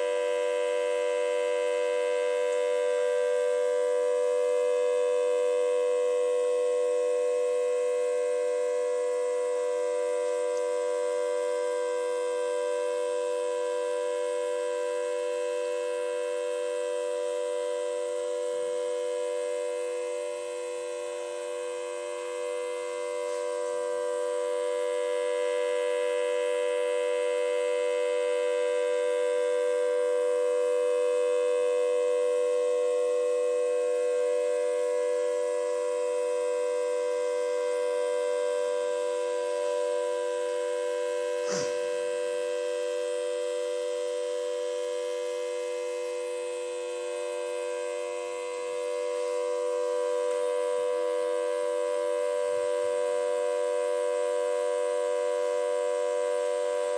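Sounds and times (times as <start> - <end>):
multi-tone siren: 0.0 - 56.9.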